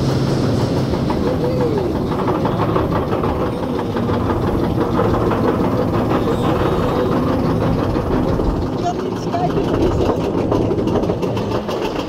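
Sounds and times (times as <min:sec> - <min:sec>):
ride train rumbling on rails: 0:00.0 - 0:12.0
wheels clattering on track: 0:00.0 - 0:12.0.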